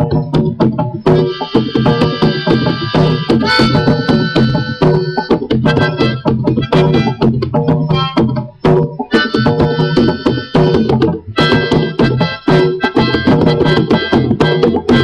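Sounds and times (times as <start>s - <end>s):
hand drums playing: 0.0s - 15.0s
harmonica chords: 0.0s - 15.0s.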